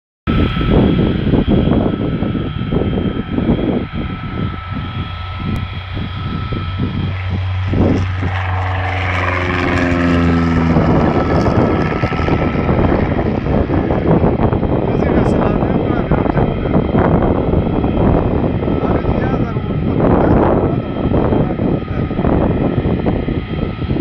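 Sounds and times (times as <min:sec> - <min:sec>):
propeller aircraft flying past: 0:00.3 - 0:24.0.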